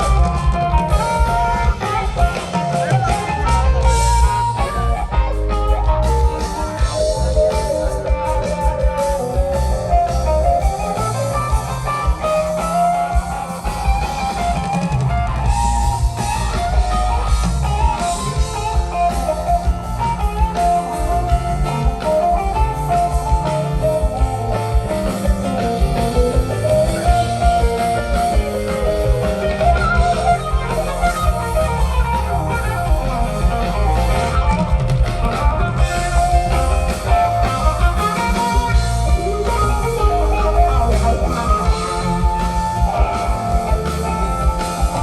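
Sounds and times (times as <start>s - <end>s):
rock band playing loud: 0.0s - 45.0s.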